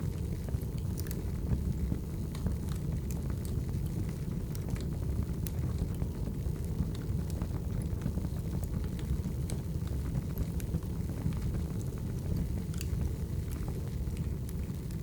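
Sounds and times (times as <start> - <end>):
fire flames rumbling: 0.0 - 15.0
logs crackling and popping: 0.0 - 15.0.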